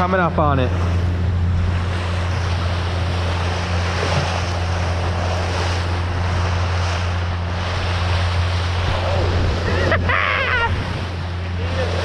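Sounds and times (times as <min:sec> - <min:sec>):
boat engine droning: 0:00.0 - 0:12.0
water noise: 0:00.0 - 0:12.0
wind: 0:00.0 - 0:12.0.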